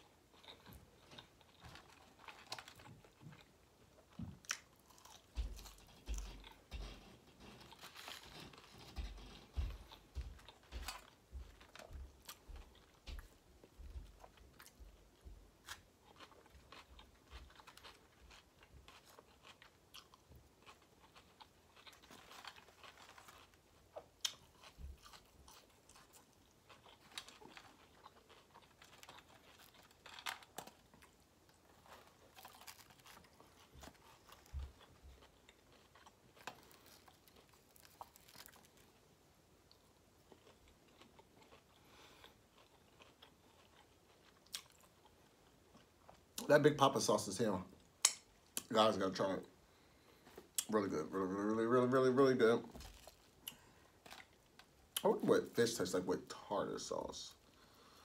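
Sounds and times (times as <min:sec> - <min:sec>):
person chewing and crunching food: 0:00.0 - 0:55.6.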